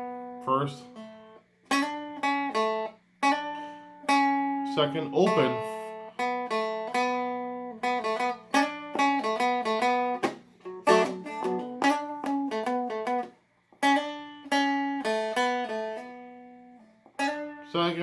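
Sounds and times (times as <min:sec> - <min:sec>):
plucked string riff: 0:00.0 - 0:18.0.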